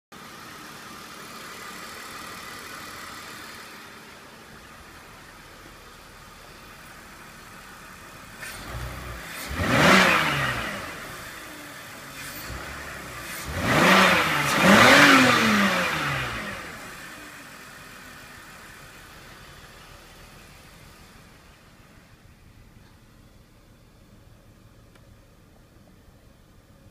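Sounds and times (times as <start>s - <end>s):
car engine idling and revving: 0.2s - 26.9s.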